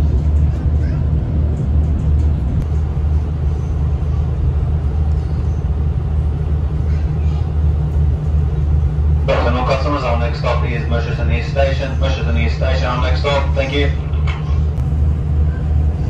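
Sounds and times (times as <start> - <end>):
train engine drone: 0.0 - 16.0
train wheels on track: 0.0 - 16.0.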